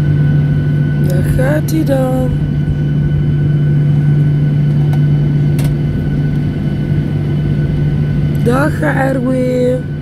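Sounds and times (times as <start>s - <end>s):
jet engines and cabin air hum: 0.0s - 10.0s.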